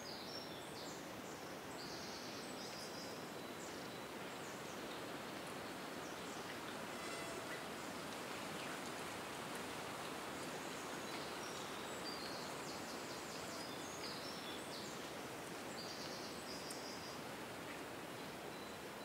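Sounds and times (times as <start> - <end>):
wind rustling leaves: 0.0 - 19.0.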